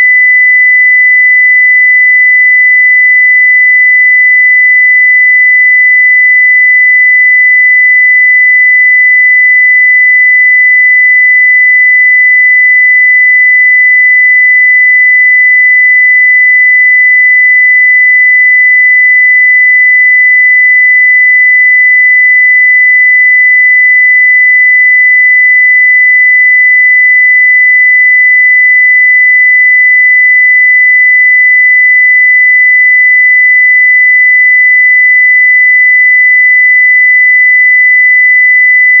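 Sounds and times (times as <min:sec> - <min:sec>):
sine-wave test tone: 0:00.0 - 0:39.0.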